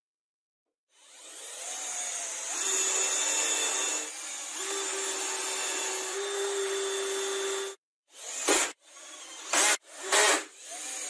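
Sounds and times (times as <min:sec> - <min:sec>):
cordless drill boring into chipboard: 0:00.9 - 0:11.0.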